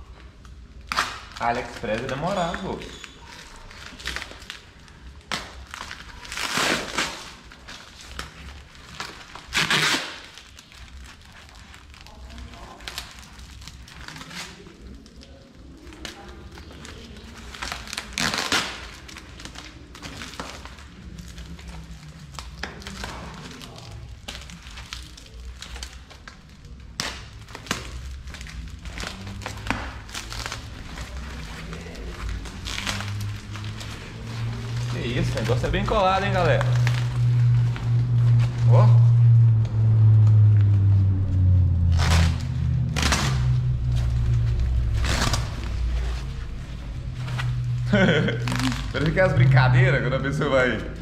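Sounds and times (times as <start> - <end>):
plastic packaging crinkling: 0.0 - 51.0
plastic packaging tearing: 0.0 - 51.0
low background rumble: 3.1 - 51.0.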